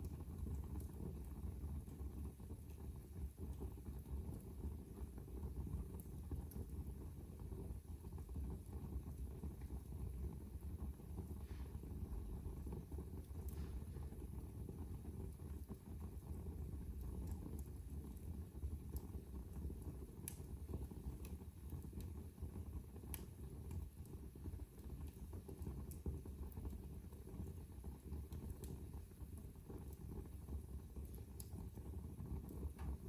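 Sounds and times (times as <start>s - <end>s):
fire crackling and popping: 0.0s - 33.0s
low rumble of flames: 0.0s - 33.0s.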